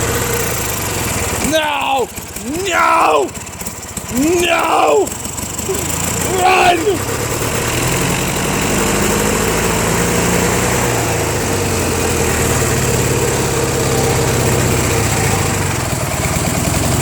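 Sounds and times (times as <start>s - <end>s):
small tractor engine running: 0.0s - 17.0s.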